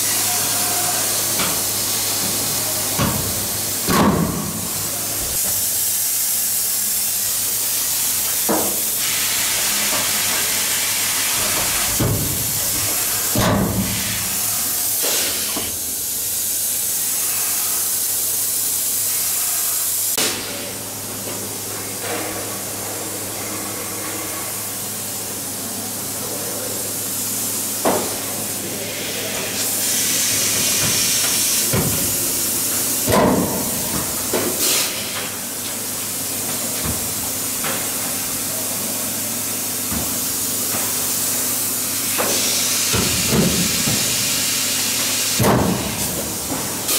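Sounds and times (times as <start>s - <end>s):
compressed air hissing: 0.0s - 20.7s, 22.0s - 46.9s.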